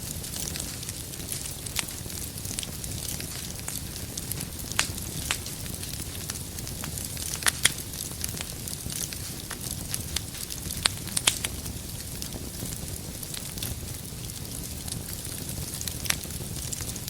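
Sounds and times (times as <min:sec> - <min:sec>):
low rush of flames: 0:00.0 - 0:17.0
sharp fire pops: 0:00.0 - 0:17.0
wood fire crackling: 0:00.0 - 0:17.0.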